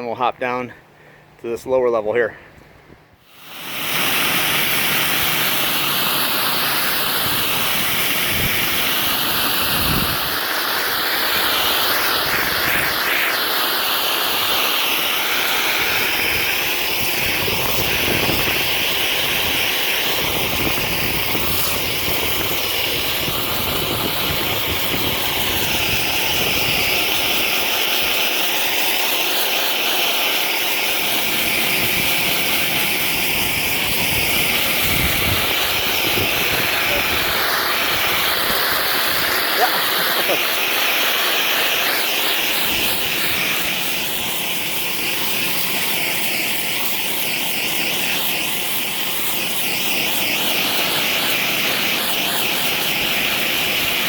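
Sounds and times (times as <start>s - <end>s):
pressure washer engine drone: 3.2s - 54.0s
water spray hissing: 3.3s - 54.0s.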